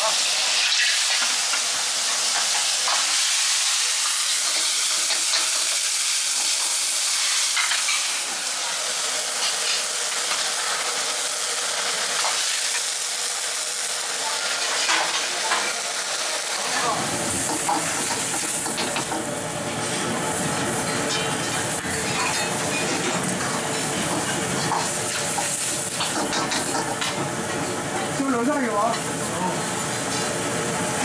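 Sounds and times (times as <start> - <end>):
clams sizzling in wok: 0.0 - 31.0.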